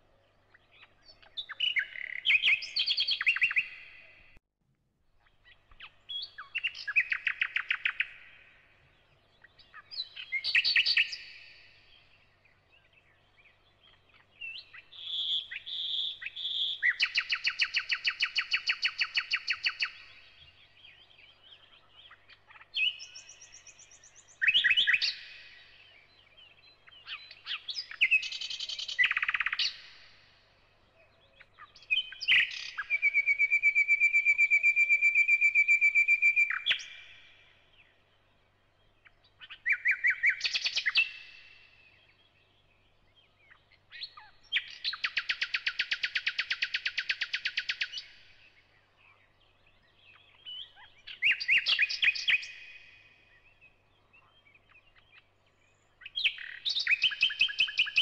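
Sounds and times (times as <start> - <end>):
bird singing: 0.0 - 4.4, 5.2 - 58.0.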